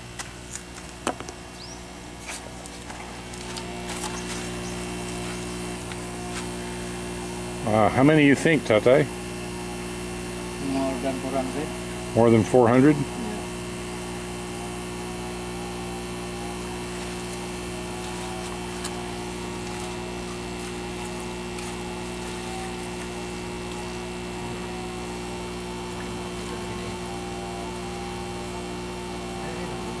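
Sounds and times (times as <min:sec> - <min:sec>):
air pumps humming: 0:00.0 - 0:30.0.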